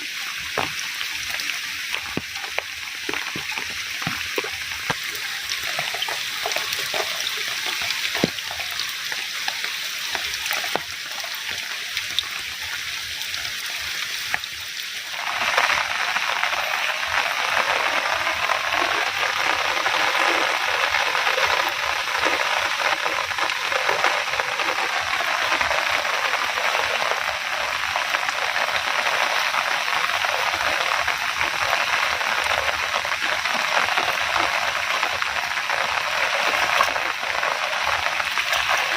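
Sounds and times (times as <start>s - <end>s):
food frying in a pan: 0.0s - 38.9s
rain: 0.0s - 38.9s
rush of water: 0.0s - 38.9s.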